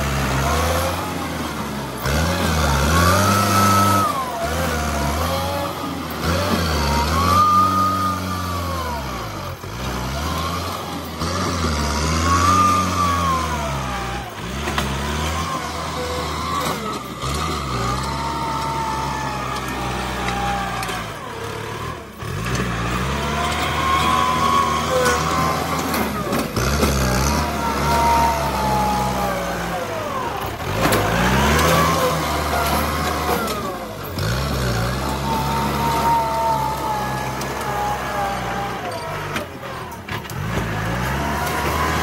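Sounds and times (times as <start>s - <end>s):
tractor diesel engine under load: 0.0s - 42.0s.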